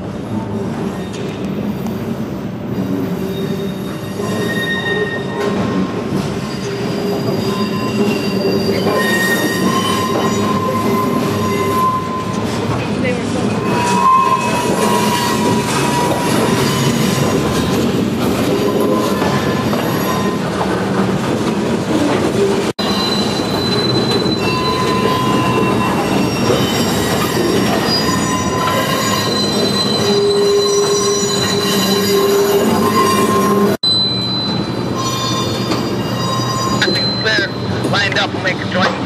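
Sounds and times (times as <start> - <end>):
wheels squealing on track: 2.7 - 20.9, 22.8 - 37.9.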